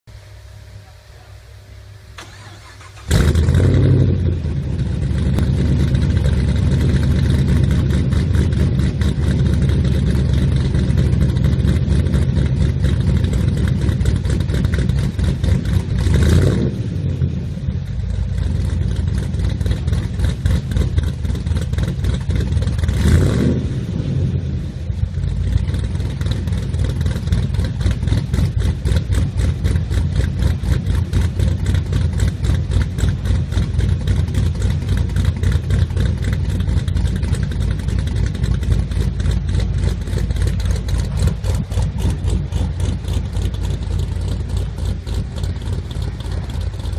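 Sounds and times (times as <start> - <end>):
car engine rough idle: 0.1 - 46.9
engine revving: 2.2 - 46.9.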